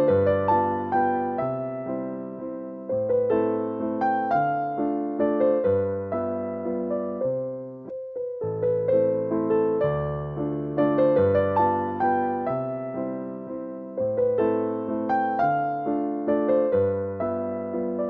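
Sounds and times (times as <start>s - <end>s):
slow piano waltz: 0.0s - 18.0s.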